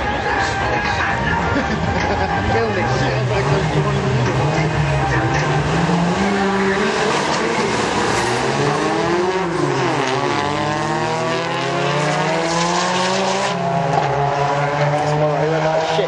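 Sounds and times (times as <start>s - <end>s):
racing car engines running: 0.0s - 16.0s
engine revving up: 2.6s - 16.0s.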